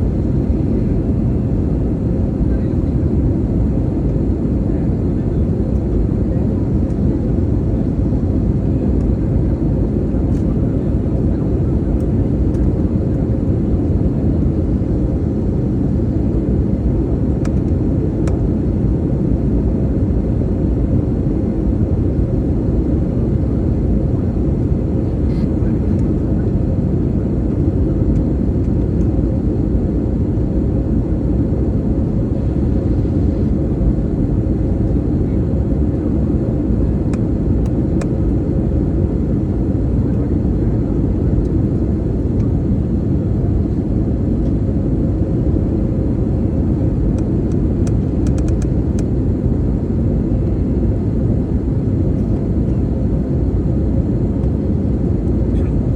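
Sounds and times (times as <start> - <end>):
airliner engine and airflow roar: 0.0 - 55.9.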